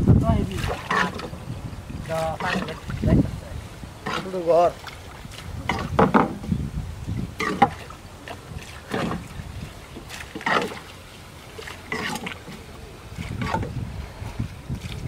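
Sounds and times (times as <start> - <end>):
fishing net hauled from water: 0.0 - 15.0
water splashing and dripping: 0.0 - 15.0
wind rumbling on microphone: 0.0 - 15.0.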